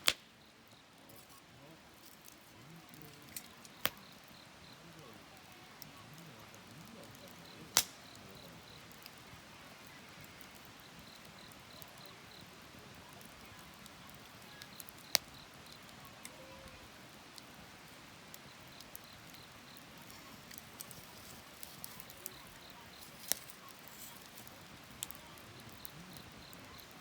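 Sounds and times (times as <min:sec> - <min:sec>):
fire popping: 0:00.0 - 0:27.0
wood fire crackling: 0:00.0 - 0:27.0.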